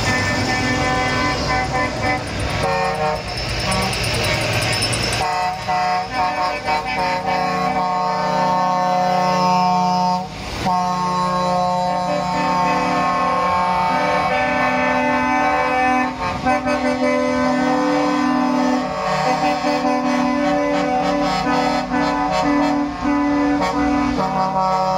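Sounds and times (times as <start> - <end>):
truck air horns blasting: 0.0 - 4.6, 5.2 - 24.9.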